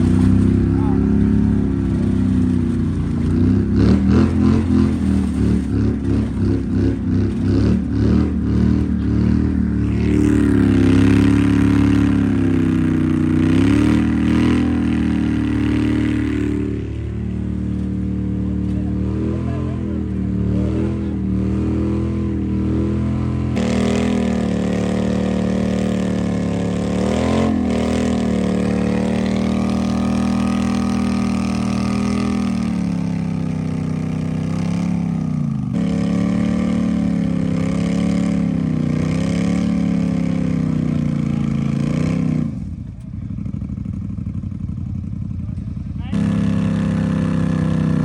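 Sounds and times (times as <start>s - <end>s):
atv engine revving: 0.0s - 48.0s.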